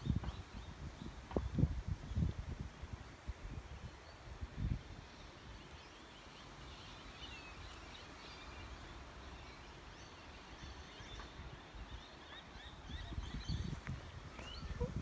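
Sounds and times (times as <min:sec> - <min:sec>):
small birds chirping: 0:00.0 - 0:02.8, 0:03.6 - 0:15.0.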